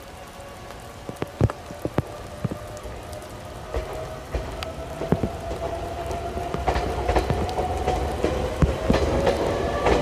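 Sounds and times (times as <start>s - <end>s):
light rain hiss: 0.0s - 10.0s
rain taps near microphone: 0.0s - 10.0s
train rumble: 0.0s - 10.0s.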